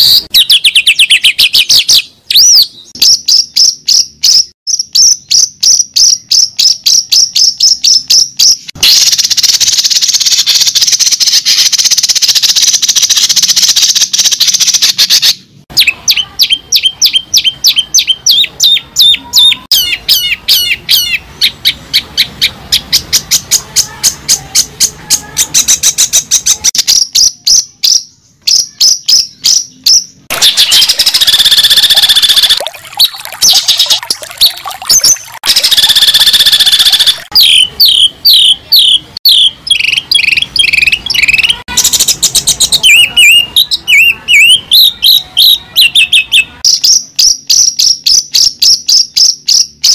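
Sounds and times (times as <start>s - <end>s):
bird chirping and trilling: 0.0s - 49.9s.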